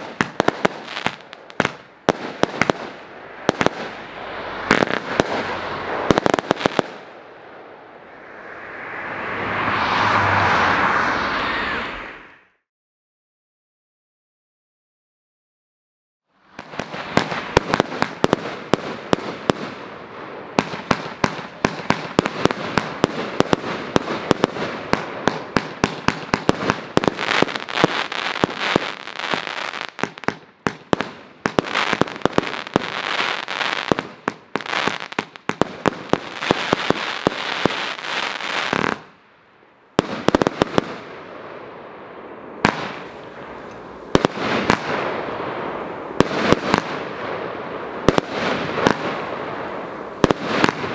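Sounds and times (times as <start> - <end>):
fireworks bangs and crackle: 0.0 - 7.2, 16.4 - 39.2, 39.9 - 50.9.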